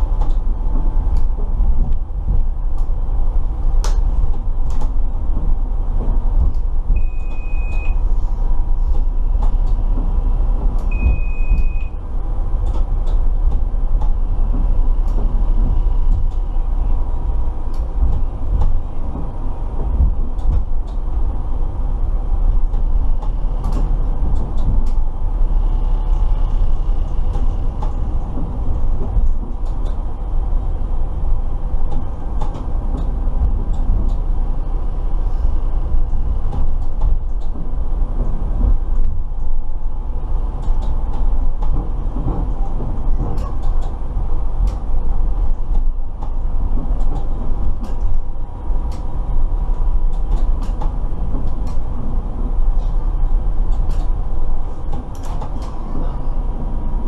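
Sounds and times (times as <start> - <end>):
tram rumbling on track: 0.0 - 57.0.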